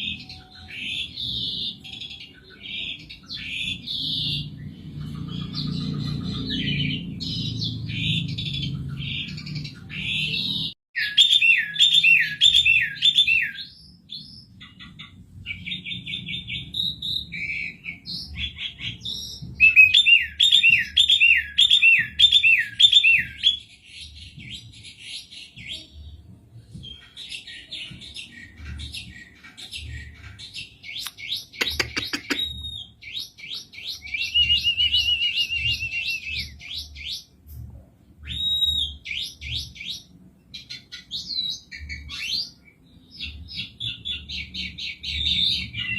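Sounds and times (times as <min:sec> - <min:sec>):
starling singing: 0:00.0 - 0:37.4, 0:38.2 - 0:45.9.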